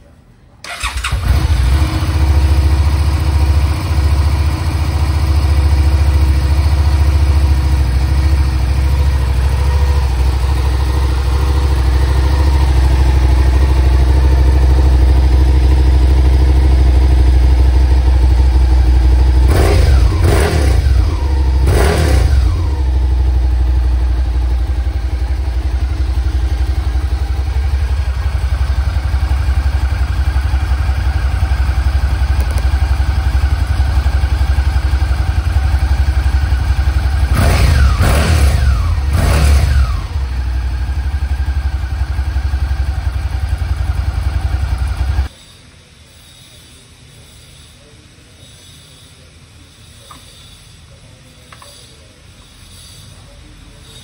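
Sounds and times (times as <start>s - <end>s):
motorcycle engine idling: 0.6s - 45.5s.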